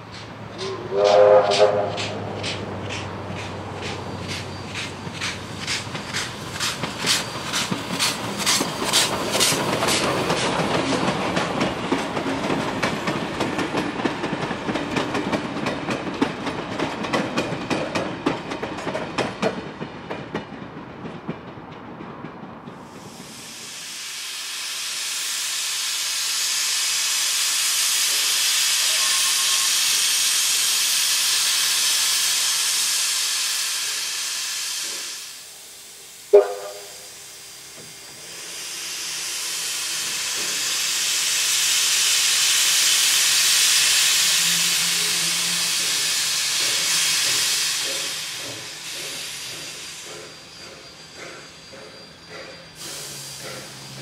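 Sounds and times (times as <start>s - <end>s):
locomotive venting steam hiss: 0.0s - 19.4s, 22.7s - 54.0s.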